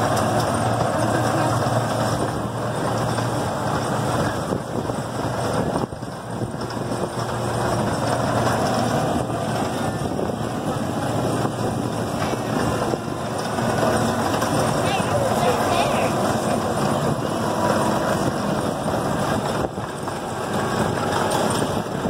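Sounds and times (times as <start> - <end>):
miniature train running on track: 0.0 - 22.0.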